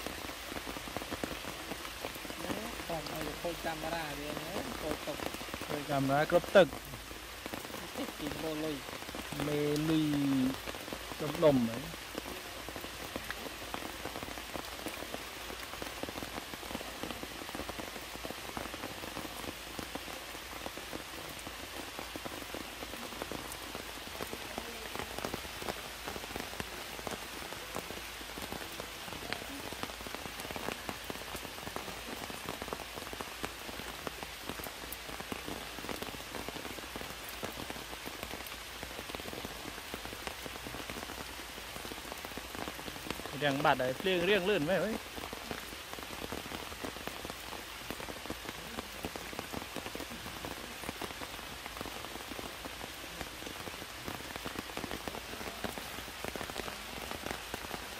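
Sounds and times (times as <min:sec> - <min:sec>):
heavy rain hissing: 0:00.0 - 0:57.9
raindrops ticking close by: 0:00.0 - 0:57.9.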